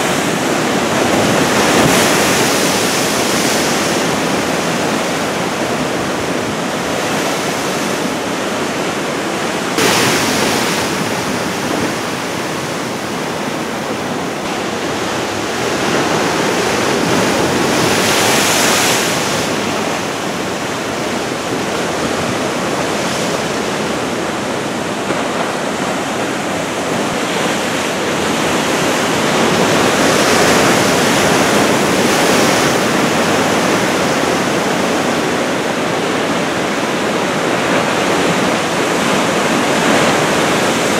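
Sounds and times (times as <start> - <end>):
heavy surf waves breaking: 0.0 - 40.9.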